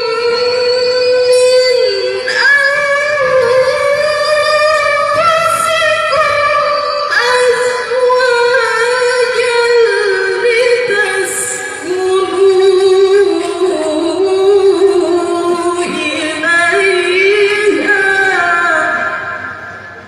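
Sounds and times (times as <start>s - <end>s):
woman reciting melodically: 0.0s - 19.6s.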